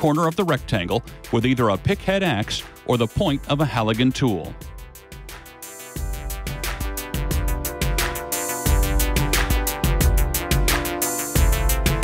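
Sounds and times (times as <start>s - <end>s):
bass: 0.0s - 12.0s
electronic drum beat: 0.0s - 12.0s.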